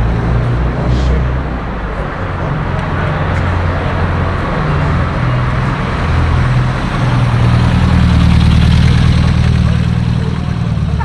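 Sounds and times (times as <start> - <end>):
car engine running: 0.0 - 11.0
street traffic: 0.0 - 11.0.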